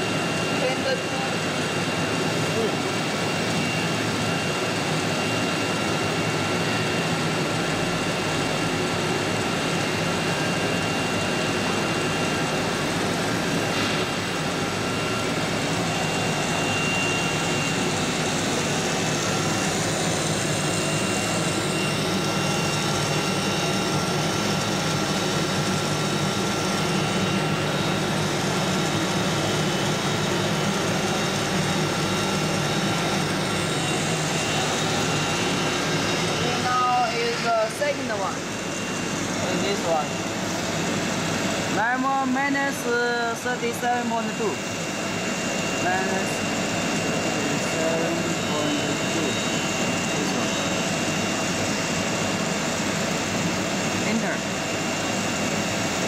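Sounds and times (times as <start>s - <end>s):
machine drone: 0.0s - 56.0s.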